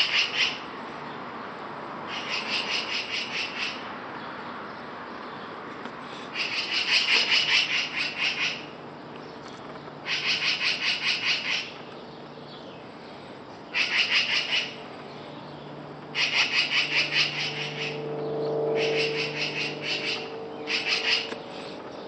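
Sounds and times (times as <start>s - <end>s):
birds chattering alarm calls: 0.0s - 5.6s, 6.2s - 22.0s.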